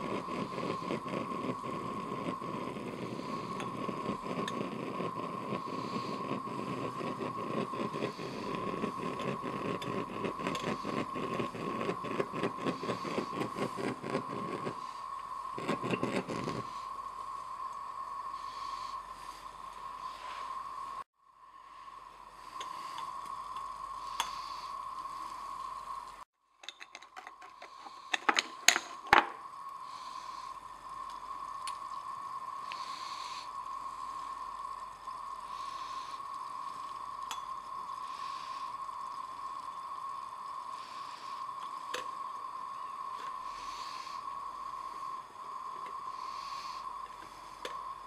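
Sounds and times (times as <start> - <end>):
faint hiss: 0.0 - 26.3, 27.1 - 48.0
steady high whine: 0.0 - 48.0.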